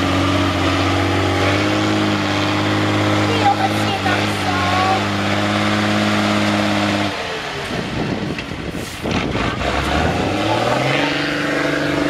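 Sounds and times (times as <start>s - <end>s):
truck engine pulling under load: 0.0s - 12.0s.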